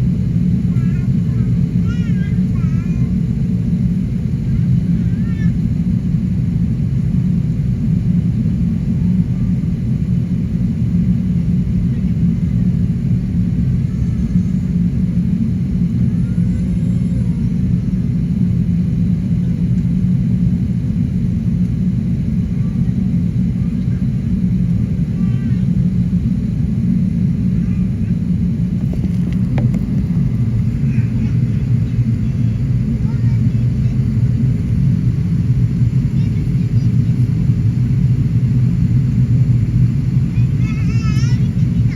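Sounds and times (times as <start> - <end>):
jet engine rumble: 0.0 - 41.9.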